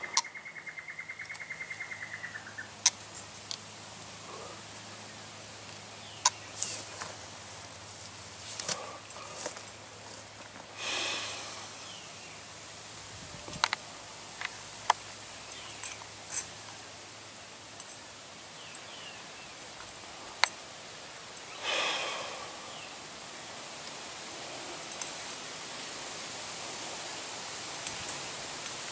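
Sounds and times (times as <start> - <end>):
rustling of gloves and grass: 5.6 - 28.9.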